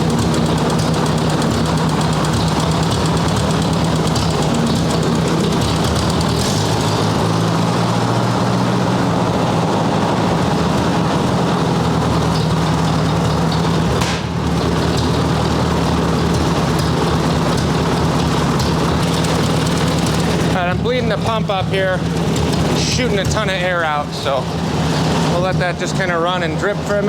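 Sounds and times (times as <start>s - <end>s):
tractor engine idling: 0.0s - 27.0s.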